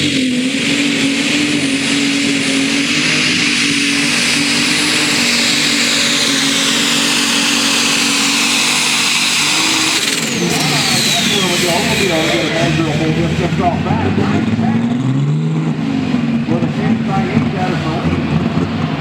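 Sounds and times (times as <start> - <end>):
high whine: 0.0 - 19.0
tractor diesel engine revving: 0.0 - 19.0.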